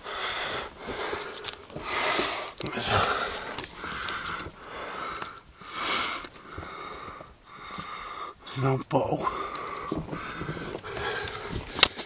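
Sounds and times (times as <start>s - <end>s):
person breathing hard: 0.0s - 8.5s, 9.2s - 12.0s.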